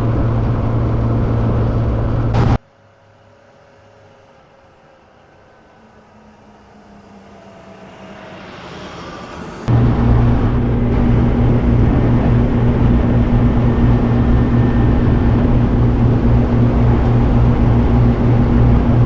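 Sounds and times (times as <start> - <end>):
car engine cruising: 0.0 - 2.6, 3.3 - 19.0
road and wind noise: 0.0 - 2.7, 3.8 - 19.0.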